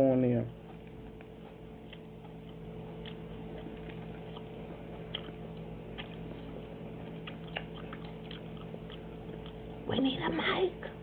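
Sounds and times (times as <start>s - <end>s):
steady low hum: 0.0s - 11.0s
person chewing: 0.5s - 9.8s.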